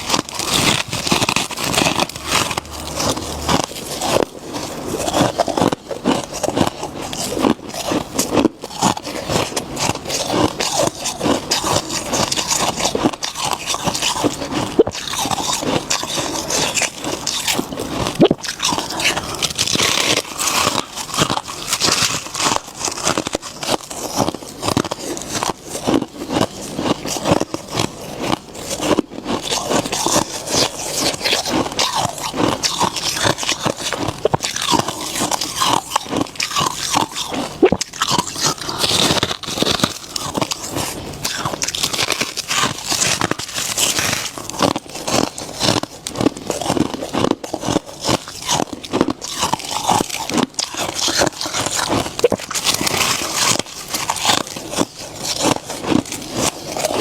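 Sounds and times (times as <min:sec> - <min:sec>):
frost being chewed crunching: 0:00.0 - 0:57.0.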